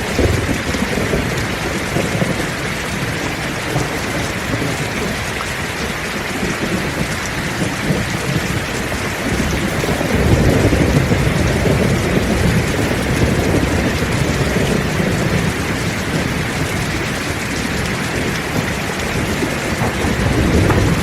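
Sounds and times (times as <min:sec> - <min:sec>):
deep thunder rumble: 0:00.0 - 0:21.0
heavy rain pouring: 0:00.0 - 0:21.0.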